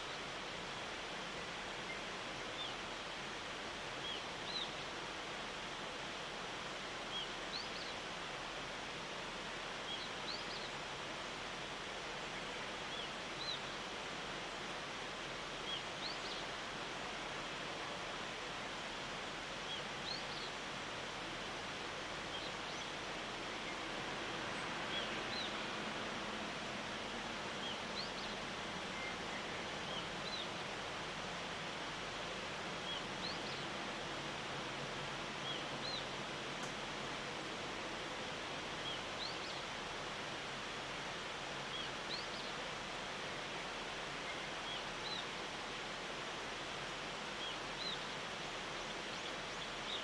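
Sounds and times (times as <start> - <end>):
background hiss: 0.0 - 50.0.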